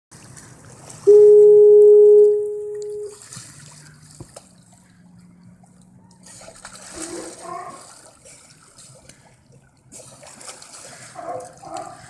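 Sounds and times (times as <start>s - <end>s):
water lapping: 0.1s - 12.0s.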